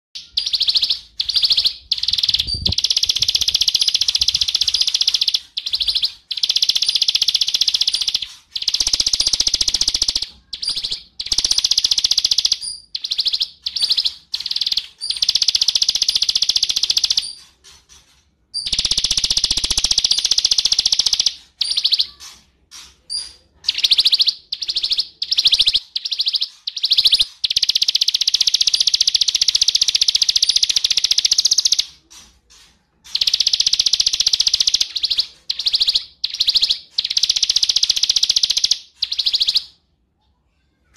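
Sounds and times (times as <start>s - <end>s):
bird trilling song: 0.2s - 39.9s.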